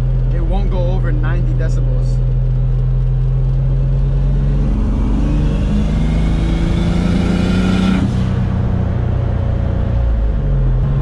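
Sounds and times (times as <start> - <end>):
car engine droning and revving: 0.0 - 11.0
road noise: 0.0 - 11.0.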